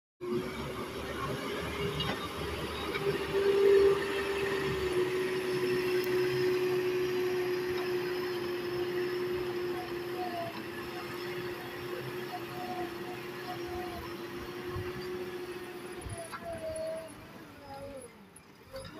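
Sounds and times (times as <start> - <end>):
diesel engine running: 0.2 - 18.9.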